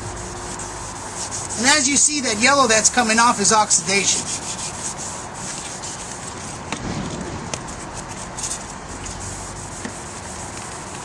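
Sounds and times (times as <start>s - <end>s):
sandpaper scrubbing strokes: 0.0s - 11.0s
steady hiss: 0.0s - 11.0s.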